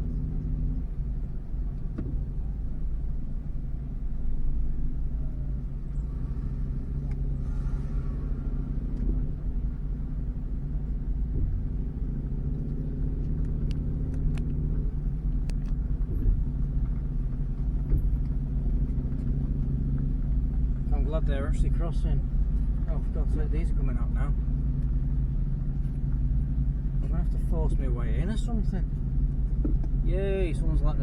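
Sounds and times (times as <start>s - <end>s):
road rumble: 0.0s - 31.0s
vehicle engine running: 0.0s - 31.0s.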